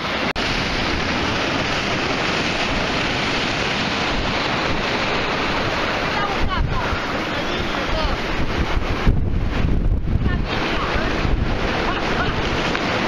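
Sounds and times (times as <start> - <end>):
sea surf rushing: 0.0 - 13.0
wind blowing on microphone: 0.0 - 13.0.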